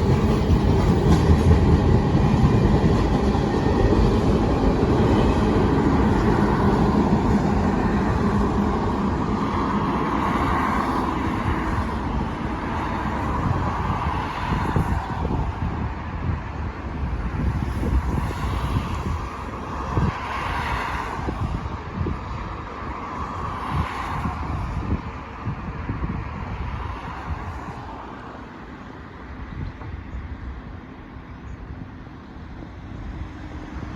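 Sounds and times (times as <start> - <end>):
passing vehicles rumbling: 0.0 - 33.9
wind buffeting microphone: 0.0 - 33.9.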